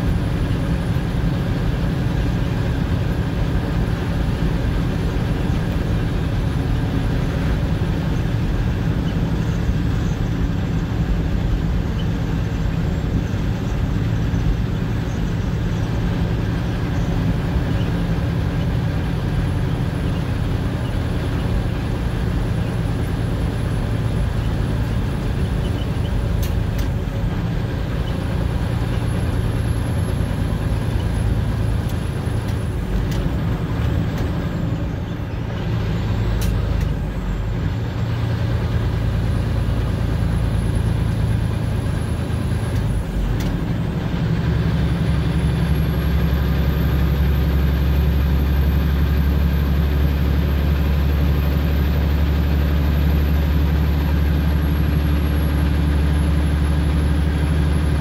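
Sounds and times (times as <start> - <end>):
truck engine pulling: 0.0 - 58.0.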